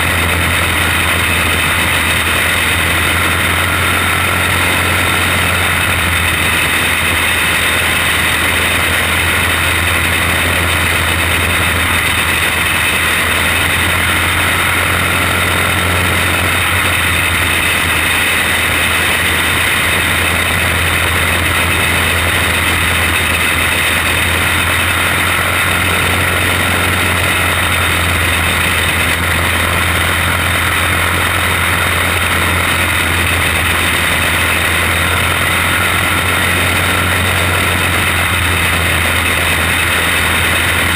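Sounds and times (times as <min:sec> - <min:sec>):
racing car engine: 0:00.0 - 0:40.9.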